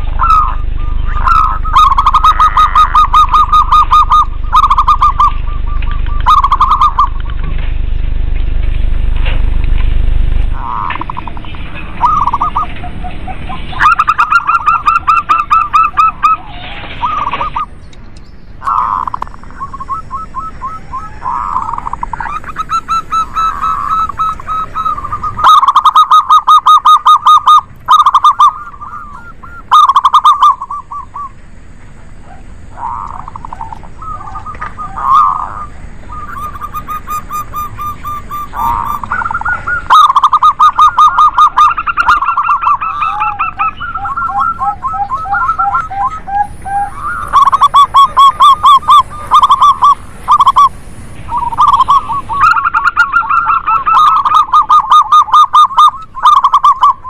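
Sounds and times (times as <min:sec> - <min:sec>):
doves cooing: 0:00.0 - 0:08.1, 0:10.4 - 0:57.0.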